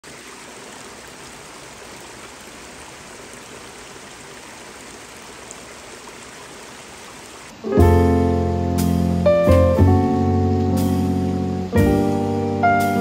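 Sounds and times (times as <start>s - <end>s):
rain hissing on water: 0.0s - 13.0s.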